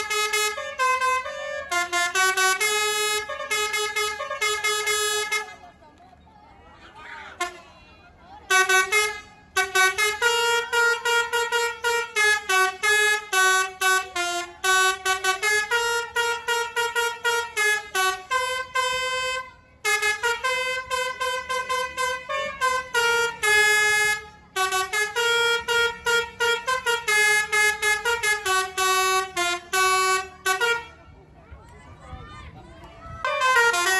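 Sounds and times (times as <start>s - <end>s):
bus musical horn melody: 0.0s - 5.8s, 7.4s - 7.7s, 8.4s - 31.0s, 33.2s - 33.9s.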